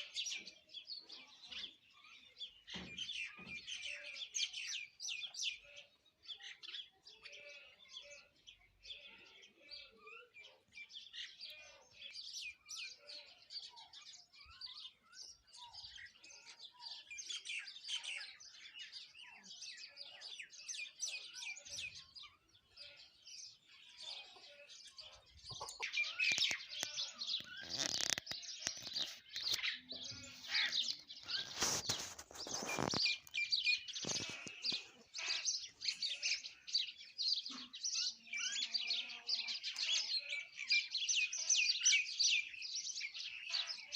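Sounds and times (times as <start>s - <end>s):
birds chirping in chorus: 0.0s - 43.9s.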